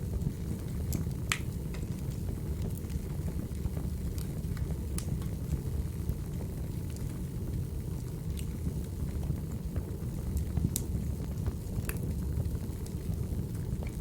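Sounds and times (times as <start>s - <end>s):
crackling wood fire: 0.0s - 14.0s.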